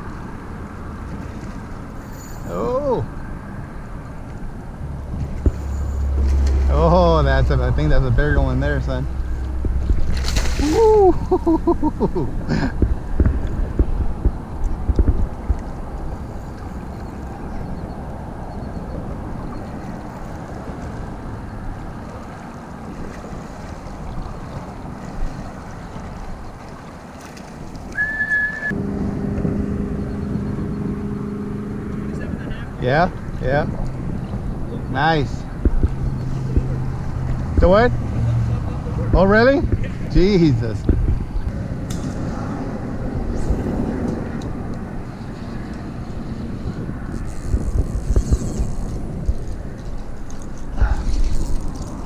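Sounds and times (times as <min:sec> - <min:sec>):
vehicle passing rumble: 0:00.0 - 0:26.4, 0:28.7 - 0:52.0
engine-like hum: 0:00.0 - 0:52.0
wind rushing over microphone: 0:03.0 - 0:26.5, 0:27.8 - 0:52.0.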